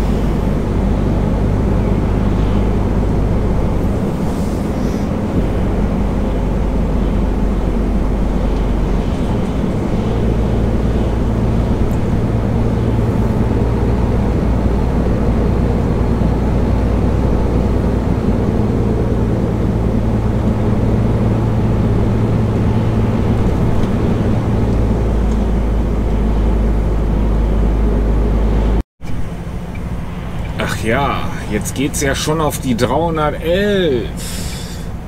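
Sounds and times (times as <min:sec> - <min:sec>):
diesel truck engine drone: 0:00.0 - 0:35.0
road noise: 0:00.0 - 0:35.0.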